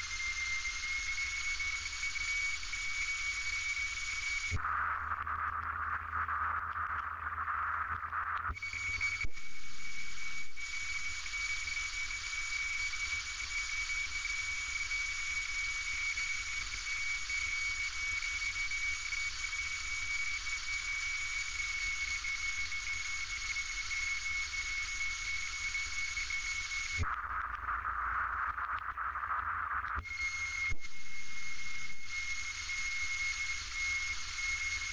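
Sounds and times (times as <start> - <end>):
high whine: 0.0 - 34.9.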